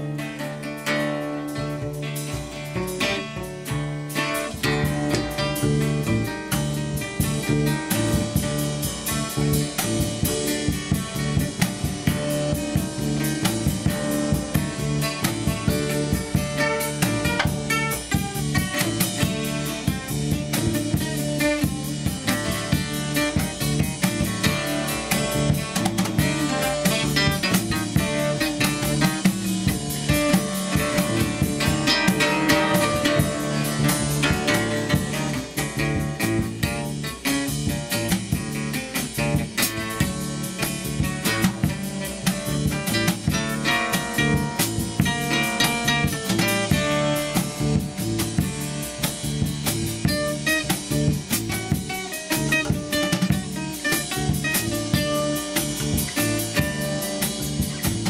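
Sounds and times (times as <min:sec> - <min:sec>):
drum kit playing busy beat: 0:00.0 - 0:58.0
plucked bass notes: 0:00.0 - 0:58.0.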